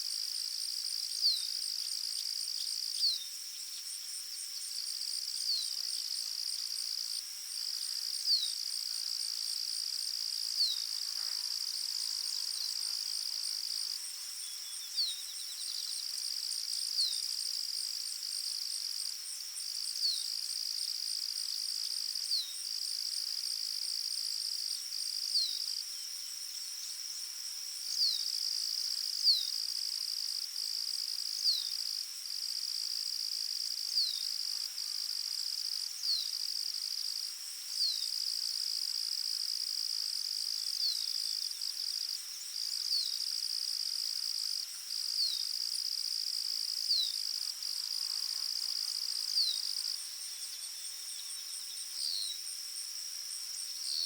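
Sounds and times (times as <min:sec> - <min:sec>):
crickets trilling: 0:00.1 - 0:54.0.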